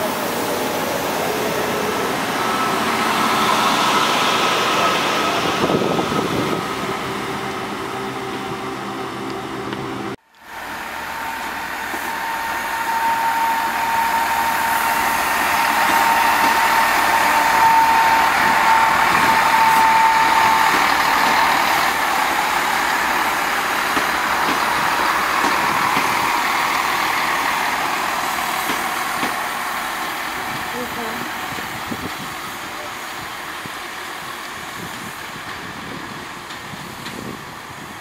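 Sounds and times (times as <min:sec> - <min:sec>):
diesel train passing: 0:00.0 - 0:38.0.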